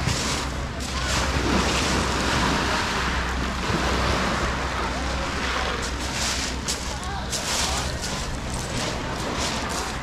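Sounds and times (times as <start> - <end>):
sea surf washing onto beach: 0.0 - 10.0.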